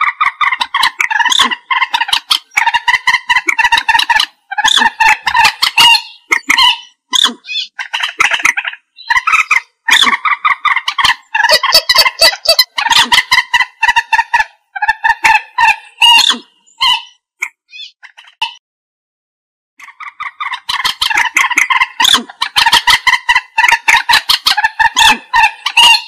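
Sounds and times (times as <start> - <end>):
moorhen clucking calls: 0.0 - 18.6, 19.8 - 26.0.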